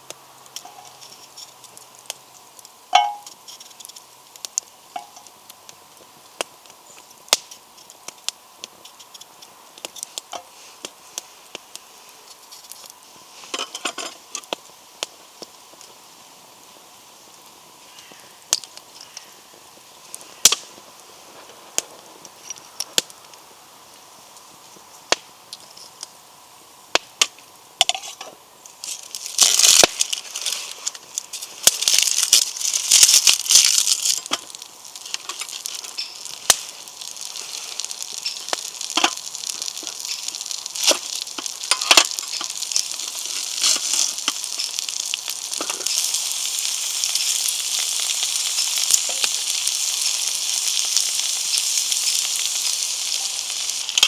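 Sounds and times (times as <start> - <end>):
food sizzling in a pan: 0.0 - 54.0
wood fire crackling: 0.0 - 54.0.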